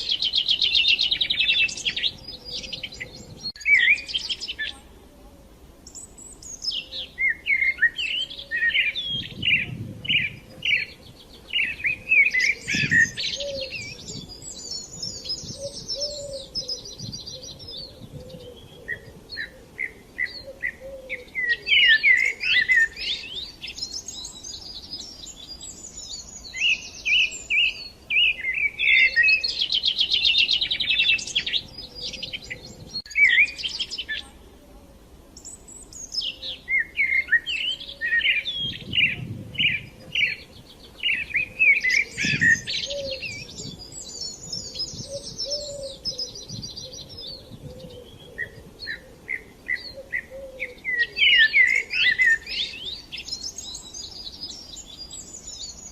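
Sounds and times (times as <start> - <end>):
songbirds singing and chirping: 0.0 - 55.9.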